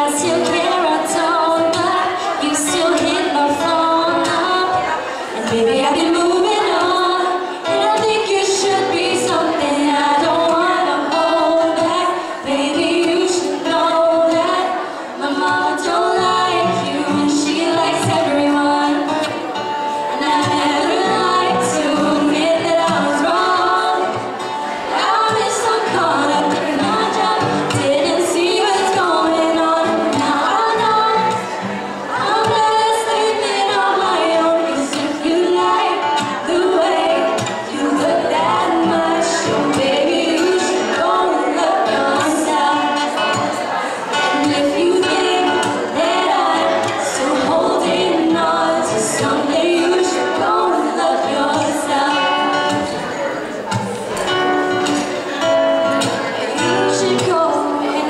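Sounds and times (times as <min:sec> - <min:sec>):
young women singing pop song: 0:00.0 - 0:55.2, 0:55.8 - 0:58.0
strummed acoustic guitar: 0:00.0 - 0:58.0.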